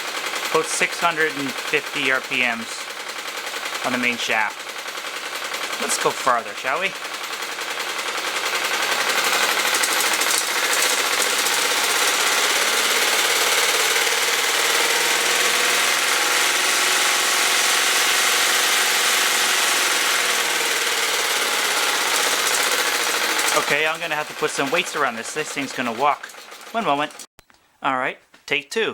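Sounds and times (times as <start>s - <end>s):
sewing machine clattering: 0.0s - 27.3s.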